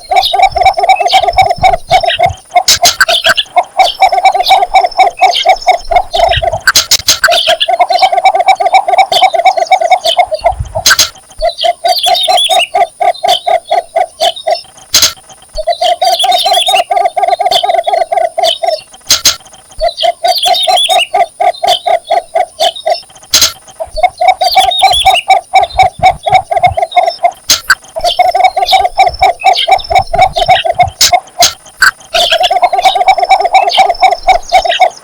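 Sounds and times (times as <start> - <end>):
bittern low rapid call: 0.0 - 35.0.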